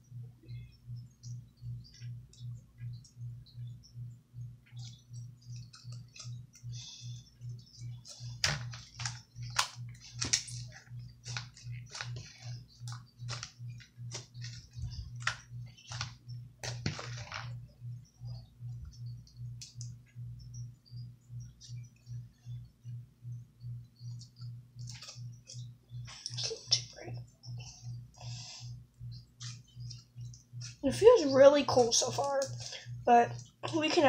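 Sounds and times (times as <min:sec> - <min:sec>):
pulsing low hum: 0:00.0 - 0:33.9.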